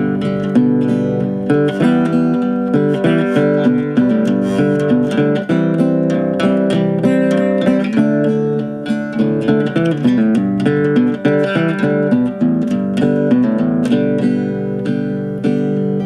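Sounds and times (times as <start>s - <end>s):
acoustic guitar strummed: 0.0s - 16.0s.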